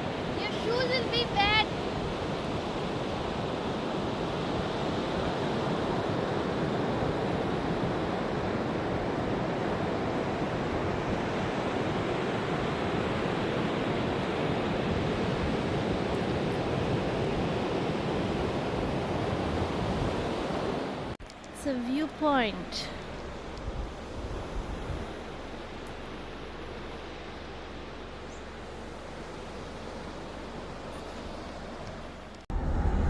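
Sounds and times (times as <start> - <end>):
ocean waves washing on beach: 0.0 - 33.0.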